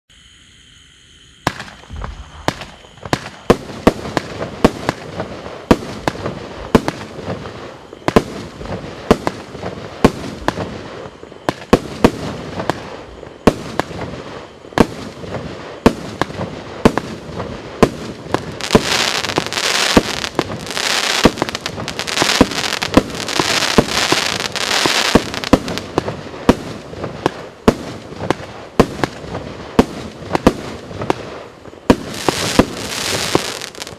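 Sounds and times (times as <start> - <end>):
firework crackling hiss: 0.2 - 33.9
firework bangs: 1.4 - 33.9.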